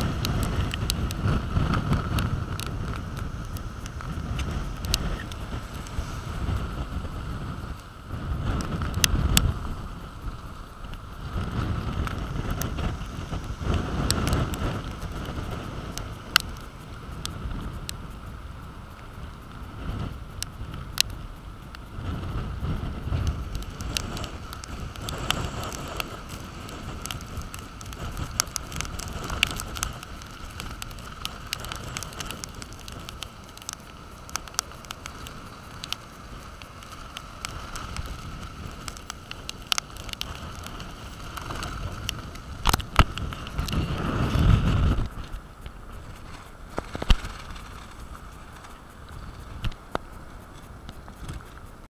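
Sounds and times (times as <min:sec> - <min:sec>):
breaking surf: 0:00.0 - 0:51.8
sharp ticks and crackles: 0:00.0 - 0:51.9
wind gusting on microphone: 0:00.0 - 0:51.9.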